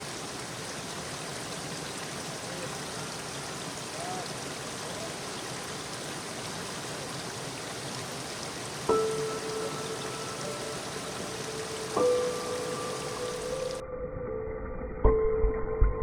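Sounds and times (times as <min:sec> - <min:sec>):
running water rushing: 0:00.0 - 0:13.8.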